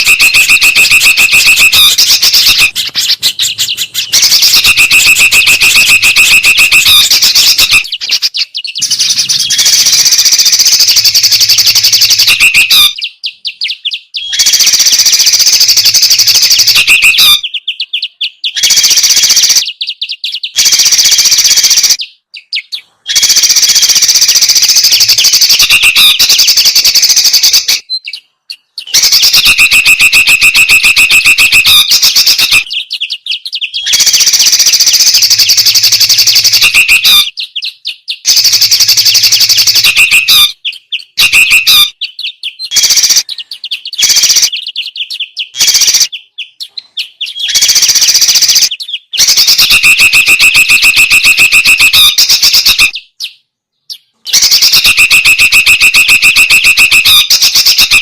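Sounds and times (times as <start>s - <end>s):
songbirds chattering: 0.0s - 58.0s.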